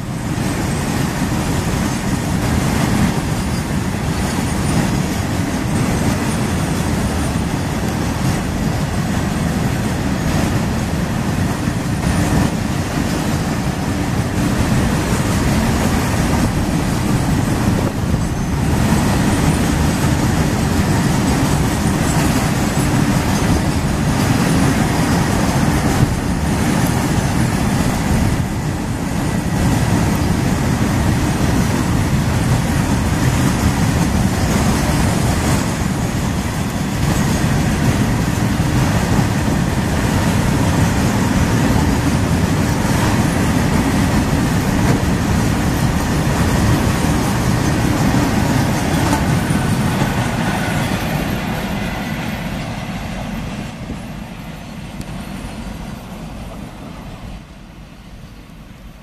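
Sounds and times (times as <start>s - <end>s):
freight wagon wheels clattering on rails: 0.0s - 53.4s.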